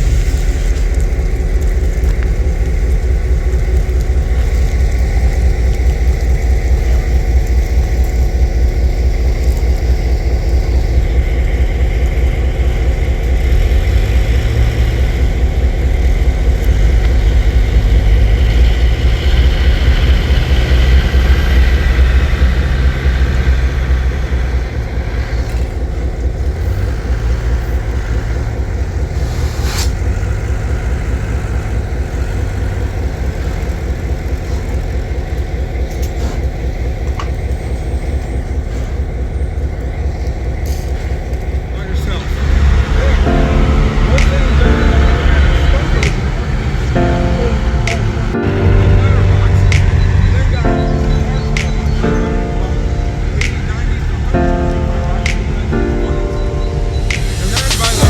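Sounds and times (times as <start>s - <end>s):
large engine pulsing rumble: 0.0s - 58.0s.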